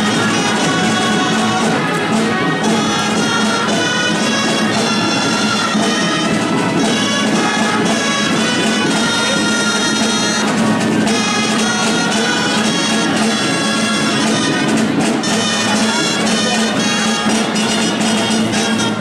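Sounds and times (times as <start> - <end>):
drums keeping beat: 0.0 - 19.0
nasal reed pipes: 0.0 - 19.0.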